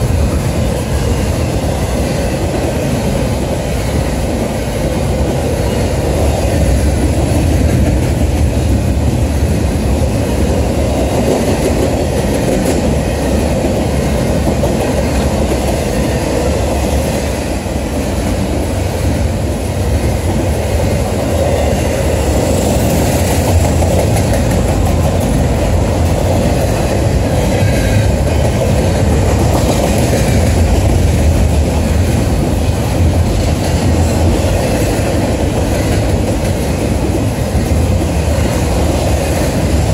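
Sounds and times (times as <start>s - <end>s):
steel wheels rumbling on rail: 0.0s - 39.9s.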